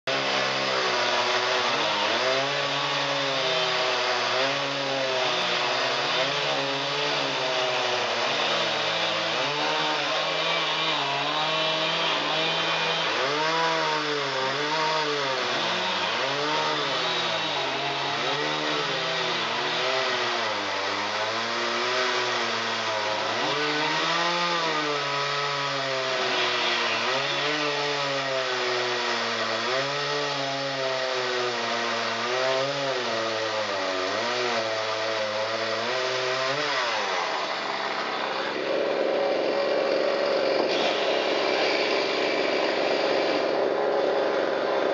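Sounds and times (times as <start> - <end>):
chainsaw cutting wood: 0.1 - 44.9.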